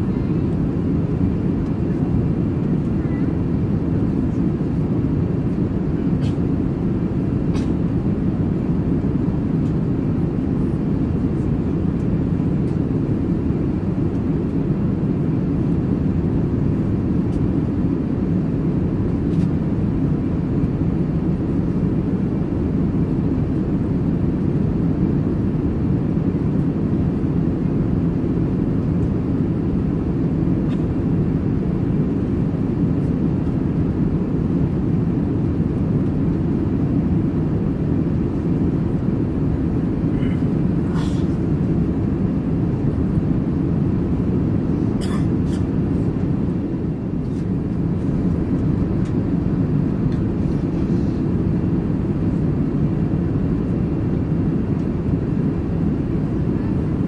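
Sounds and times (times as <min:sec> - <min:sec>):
aircraft cabin engine roar: 0:00.0 - 0:57.0.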